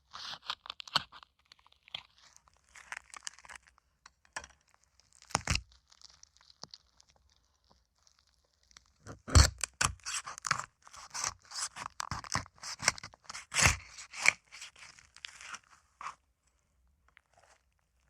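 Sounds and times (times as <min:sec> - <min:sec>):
tearing and crunching gore sounds: 0:00.0 - 0:16.2.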